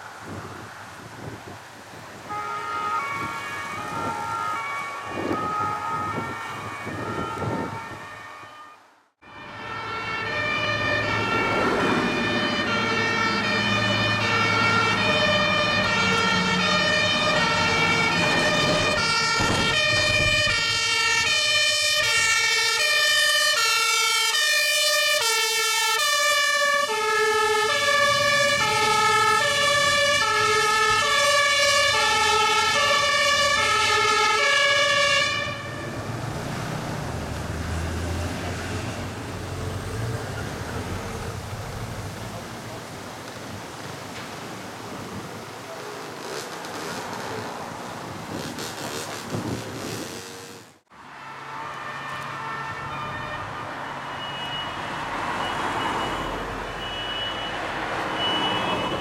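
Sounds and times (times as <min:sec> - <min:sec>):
two-tone sirens: 0:02.1 - 0:42.2, 0:50.9 - 0:59.0.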